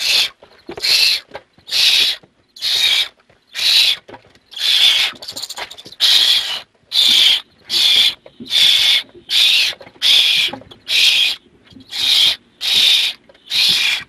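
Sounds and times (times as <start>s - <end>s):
owl nestlings hissing screeches: 0.0s - 14.0s.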